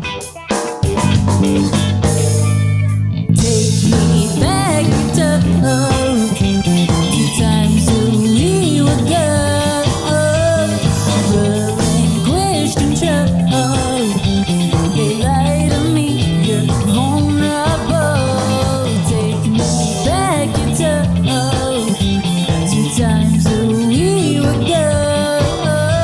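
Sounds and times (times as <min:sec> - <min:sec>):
bass and drum groove: 0:00.0 - 0:26.0
funk rock band playing live: 0:00.0 - 0:26.0
pitch-bending lead melody: 0:00.9 - 0:26.0.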